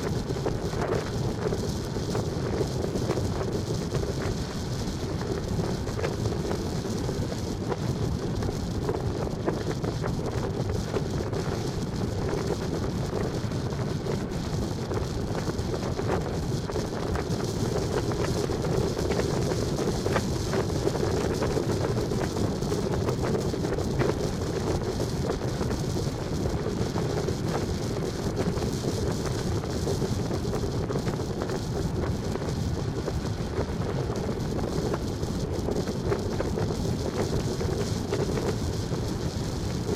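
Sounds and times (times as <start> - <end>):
vehicle running on road: 0.0 - 39.9
wind noise on microphone: 0.0 - 39.9.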